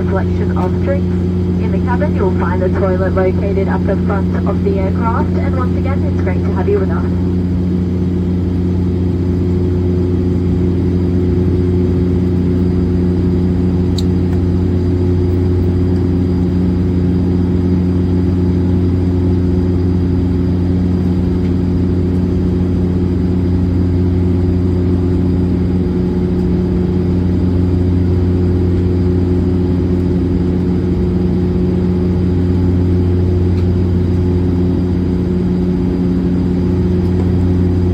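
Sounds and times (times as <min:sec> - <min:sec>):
turboprop cabin drone: 0:00.0 - 0:37.9.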